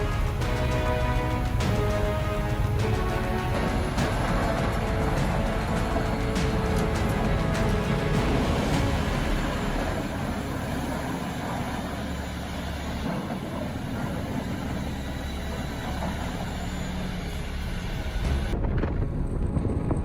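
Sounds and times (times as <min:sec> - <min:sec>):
heavy vehicle engine droning: 0:00.0 - 0:19.7.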